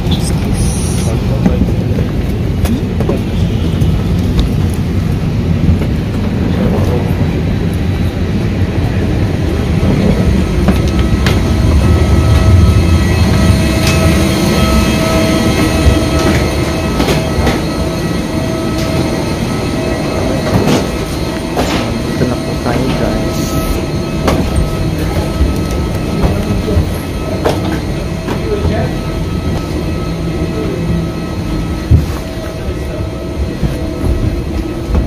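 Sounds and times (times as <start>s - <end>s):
airliner low rumble: 0.0s - 35.0s
steady whine: 0.0s - 35.0s.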